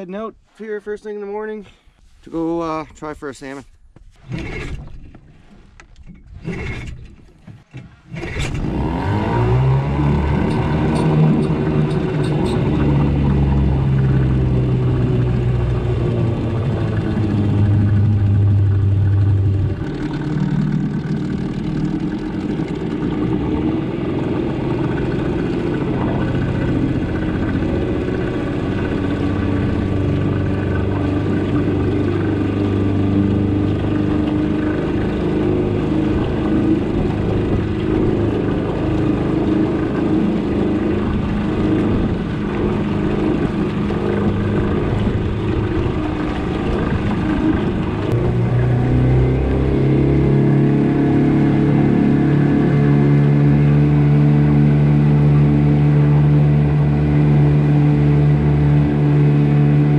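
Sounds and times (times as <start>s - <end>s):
outboard motor revving: 4.2s - 59.9s.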